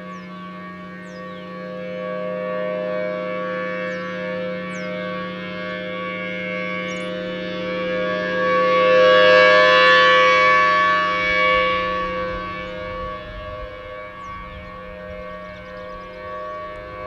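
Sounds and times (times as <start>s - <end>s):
outdoor warning siren: 0.0s - 17.0s.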